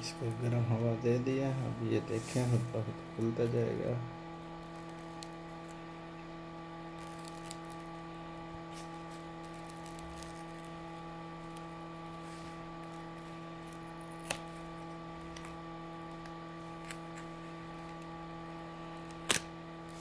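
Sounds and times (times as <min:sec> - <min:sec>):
hot-air gun humming: 0:00.0 - 0:20.0.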